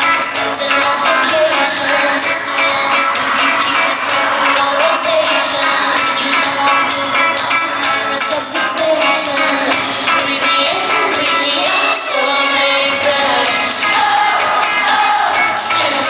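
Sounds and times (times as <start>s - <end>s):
live pop band dance beat: 0.0s - 16.0s
woman singing into microphone: 0.0s - 16.0s.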